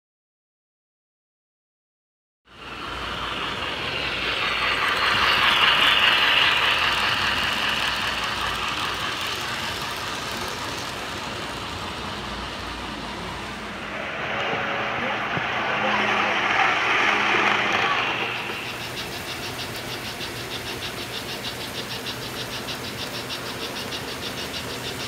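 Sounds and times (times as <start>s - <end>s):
model train wheels clattering: 2.7s - 25.0s.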